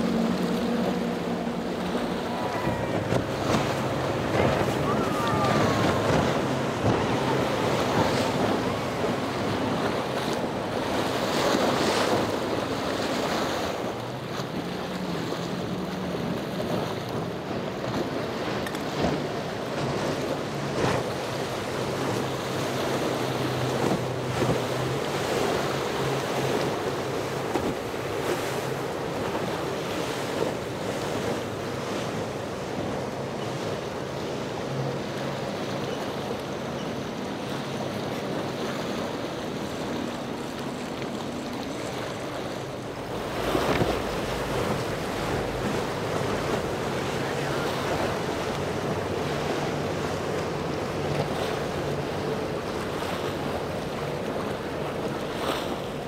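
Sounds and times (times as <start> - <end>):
wind buffeting microphone: 0.0 - 33.8, 38.0 - 56.0
boat engines running: 0.0 - 56.0
surf: 0.0 - 56.0.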